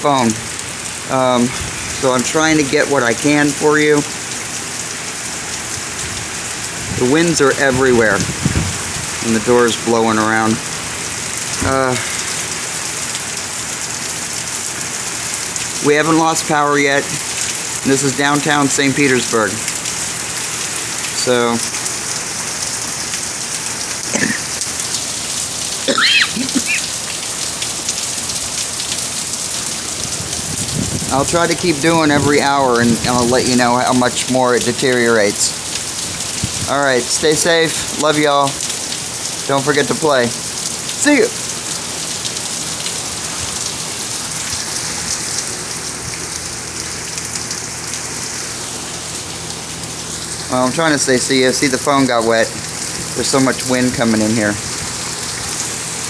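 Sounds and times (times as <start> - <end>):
heavy rain and wind: 0.0 - 56.0.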